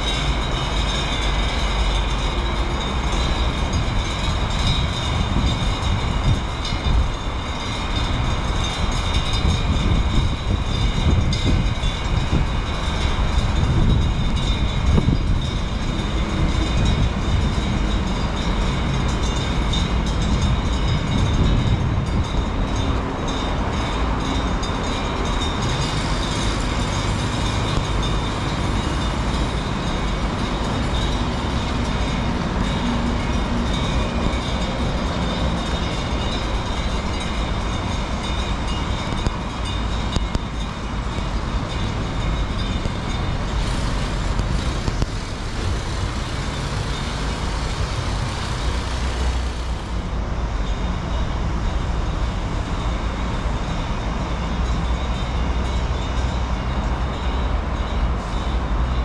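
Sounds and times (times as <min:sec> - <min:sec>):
low traffic rumble: 0:00.0 - 0:59.0.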